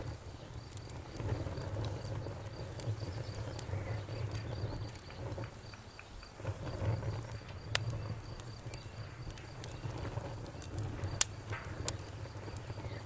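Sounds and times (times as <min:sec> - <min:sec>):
campfire rumbling: 0:00.0 - 0:13.0
crickets chirping: 0:00.0 - 0:13.0
fire crackles and pops: 0:00.0 - 0:13.0.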